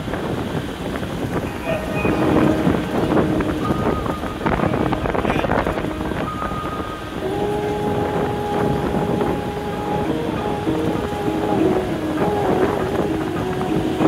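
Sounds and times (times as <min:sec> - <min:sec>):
wind buffeting microphone: 0:00.0 - 0:14.0
steady held tones: 0:01.2 - 0:14.0.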